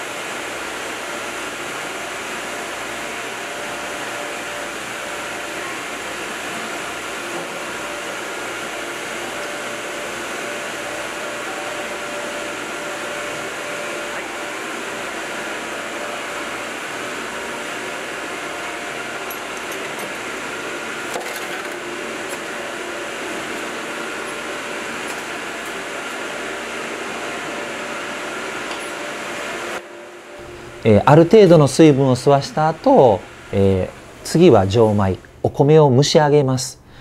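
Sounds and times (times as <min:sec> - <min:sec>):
machinery and ventilation noise: 0:00.0 - 0:37.0.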